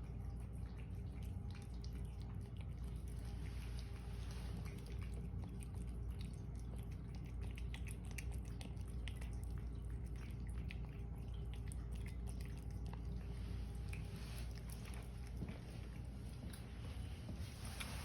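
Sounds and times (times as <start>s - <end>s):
cat chewing and licking: 0.0s - 18.0s
steady low hum: 0.0s - 18.0s.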